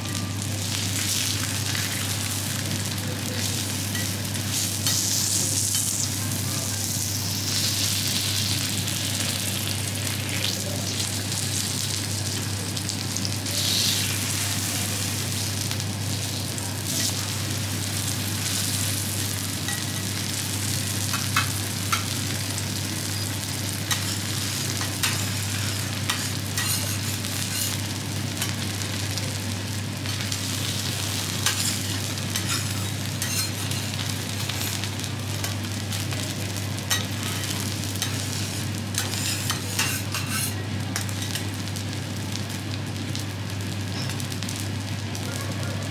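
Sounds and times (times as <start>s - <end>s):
steak sizzling on griddle: 0.0s - 45.9s.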